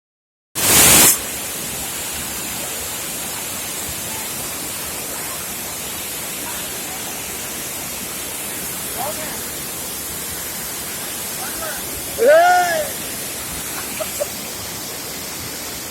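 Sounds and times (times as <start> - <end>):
waterfall rushing: 0.6 - 15.9.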